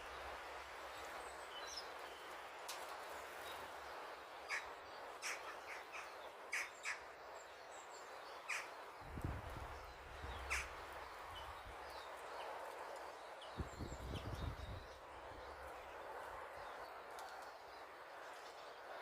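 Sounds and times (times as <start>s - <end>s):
birds chirping: 0.0s - 19.0s
steady outdoor hiss: 0.0s - 19.0s.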